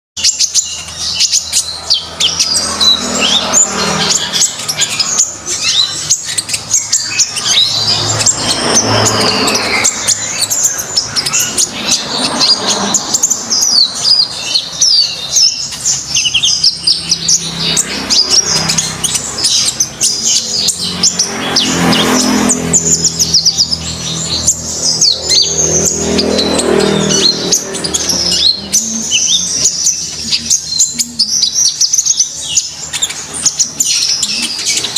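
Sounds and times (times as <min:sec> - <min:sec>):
songbird chirping and trilling: 0:00.2 - 0:34.9.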